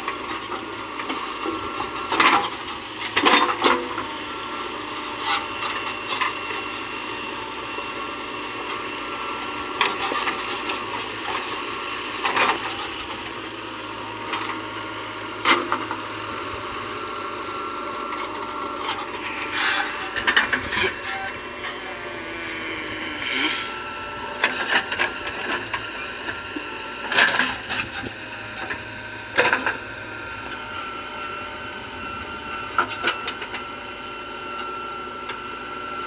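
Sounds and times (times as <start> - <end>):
backhoe loader running: 0.0 - 36.0.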